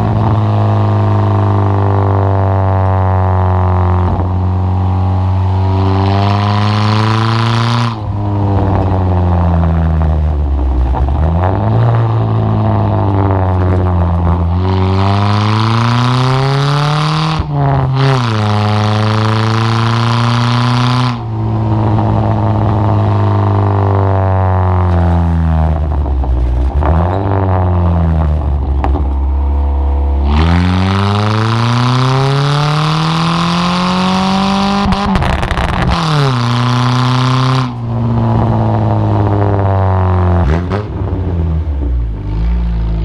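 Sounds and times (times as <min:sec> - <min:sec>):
car engine revving loud: 0:00.0 - 0:43.0.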